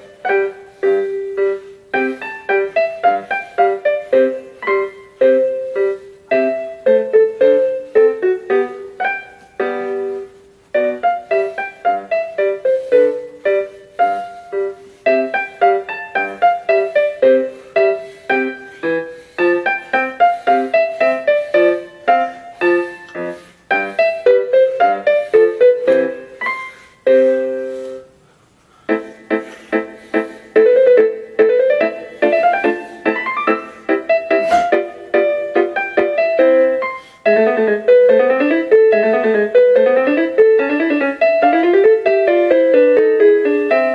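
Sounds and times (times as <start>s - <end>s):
electronic keyboard piano melody: 0.0s - 43.9s.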